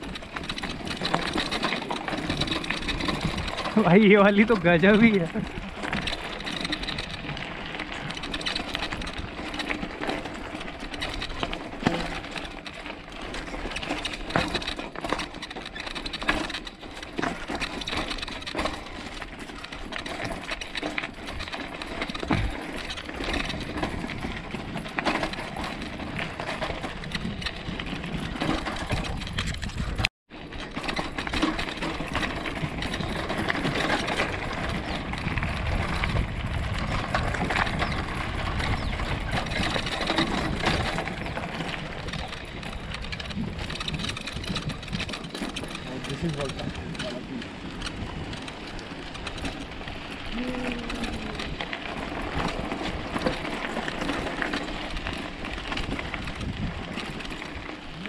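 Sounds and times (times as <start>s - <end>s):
bicycle frame and chain rattling: 0.0s - 58.0s
tyres rushing on dirt track: 0.0s - 58.0s.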